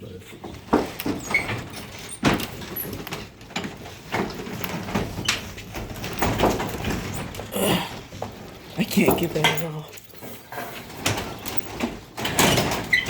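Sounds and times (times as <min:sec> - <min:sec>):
garage door rattling: 0:00.0 - 0:13.0
garage door clunks: 0:00.4 - 0:13.0.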